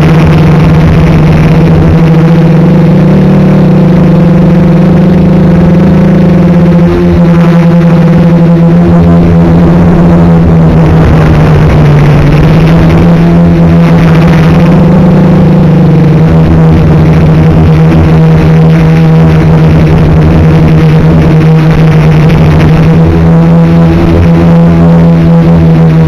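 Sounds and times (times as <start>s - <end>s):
drone motors and propellers humming: 0.0s - 26.0s.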